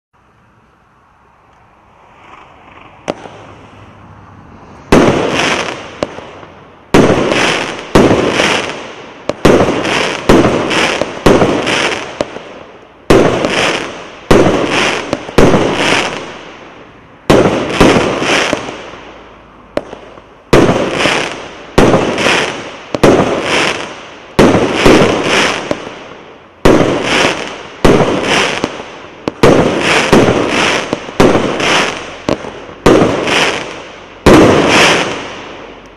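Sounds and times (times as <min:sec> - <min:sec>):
fireworks bangs: 0:02.0 - 0:35.9.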